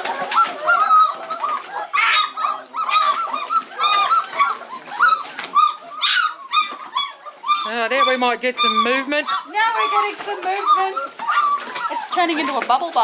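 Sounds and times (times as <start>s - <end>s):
puppies crying and whining: 0.0s - 13.0s.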